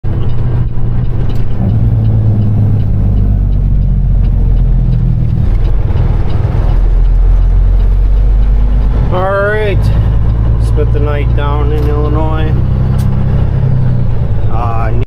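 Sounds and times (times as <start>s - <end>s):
diesel truck engine drone: 0.0s - 15.0s
road noise: 0.0s - 15.0s.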